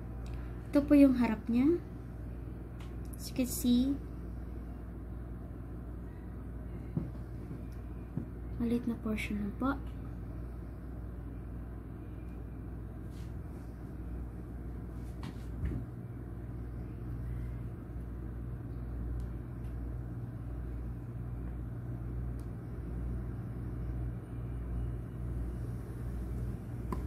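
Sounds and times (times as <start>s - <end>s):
low background rumble: 0.0s - 15.2s, 15.8s - 27.0s.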